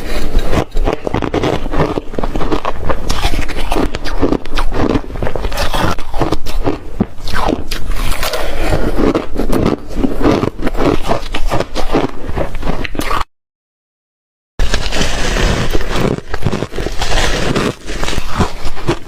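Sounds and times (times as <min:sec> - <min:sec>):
ice being chewed: 0:00.0 - 0:13.3, 0:14.6 - 0:19.0.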